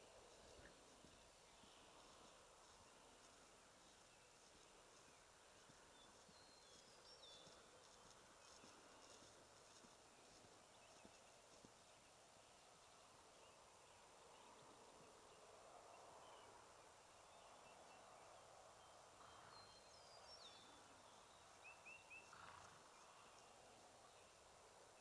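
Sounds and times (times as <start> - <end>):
faint bird chirps: 0.0 - 25.0
faint outdoor ambience: 0.0 - 25.0.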